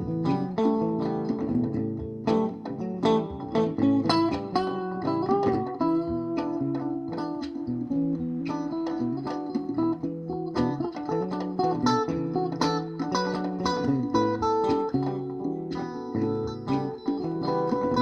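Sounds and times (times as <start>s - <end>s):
plucked guitar over bass line: 0.0s - 18.0s.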